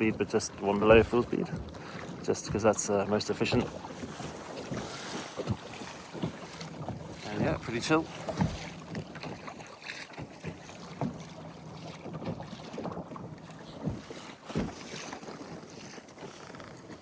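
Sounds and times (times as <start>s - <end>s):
water rushing along hull: 0.0s - 17.0s
water thumping against hull: 0.0s - 17.0s.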